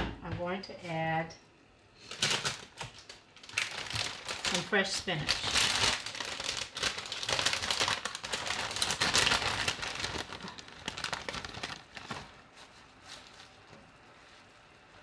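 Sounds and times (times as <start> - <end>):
spinach leaves rustling in a pan: 2.0 - 15.0.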